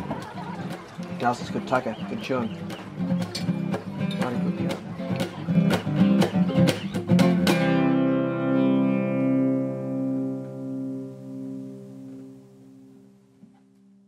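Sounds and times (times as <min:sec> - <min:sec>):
guitar notes and chord: 0:02.4 - 0:14.0.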